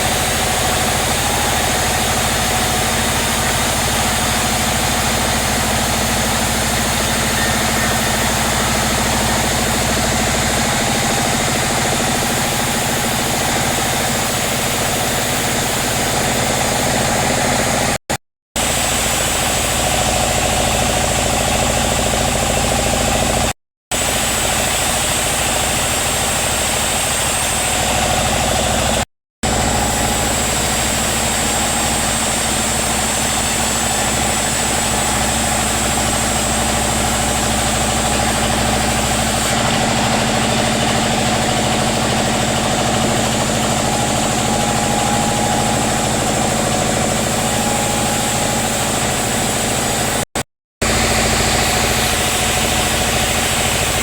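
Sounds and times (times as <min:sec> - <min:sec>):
sawmill machinery running: 0:00.0 - 0:18.0, 0:18.6 - 0:54.0.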